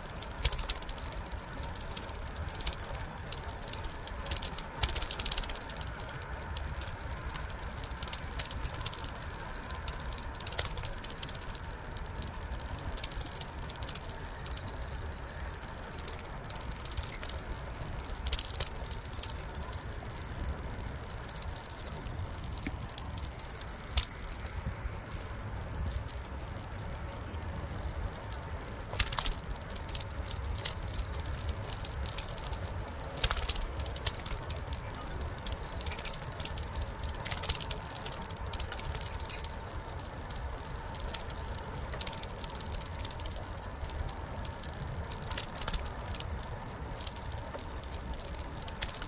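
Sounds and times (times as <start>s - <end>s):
bicycle tyre noise: 0.0s - 49.0s
bike clicks and rattles: 0.0s - 49.0s.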